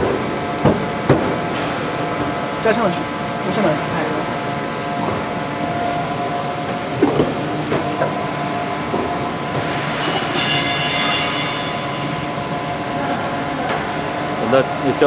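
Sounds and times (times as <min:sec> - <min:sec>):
machine hum and rattle: 0:00.0 - 0:15.0.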